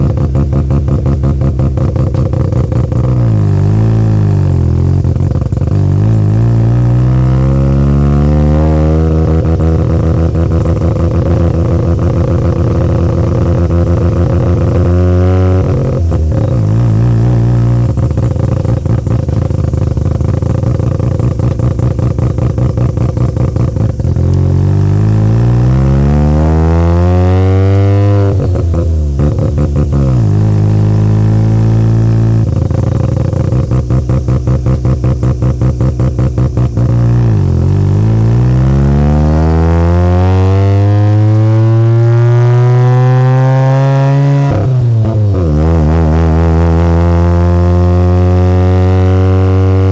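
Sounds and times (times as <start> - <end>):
rotary engine revving: 0.0 - 49.9.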